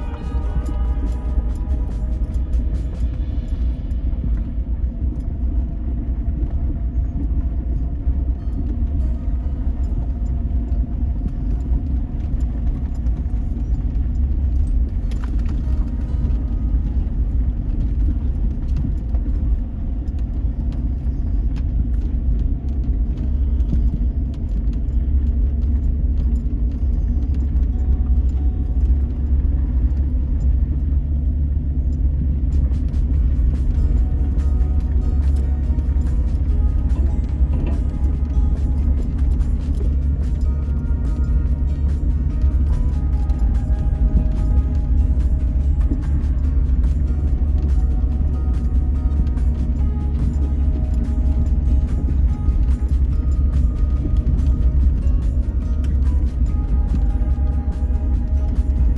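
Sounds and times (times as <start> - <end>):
low road rumble: 0.0 - 58.9
rattling and jingling: 0.0 - 58.9.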